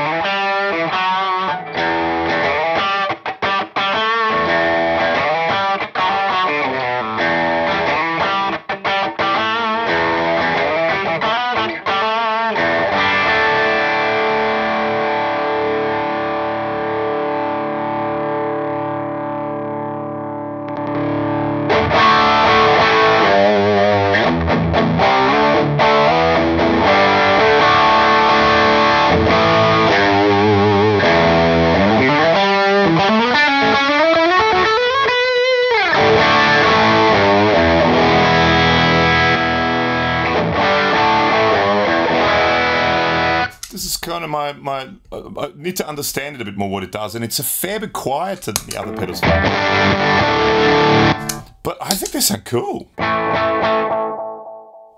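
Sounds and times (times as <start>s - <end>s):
distorted electric guitar: 0.0s - 43.8s, 48.4s - 54.6s.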